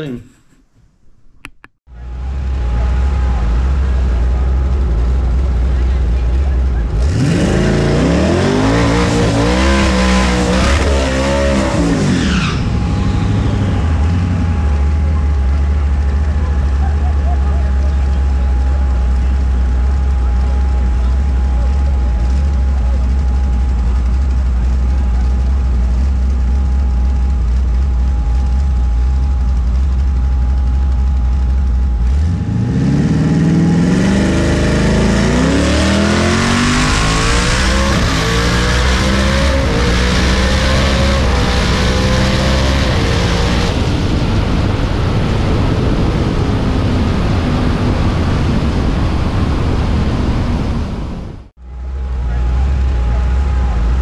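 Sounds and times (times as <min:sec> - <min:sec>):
engine droning while coasting: 0:01.9 - 0:11.0, 0:11.7 - 0:54.0
car engine idling: 0:01.9 - 0:54.0
car engine accelerating with upshifts: 0:02.0 - 0:54.0.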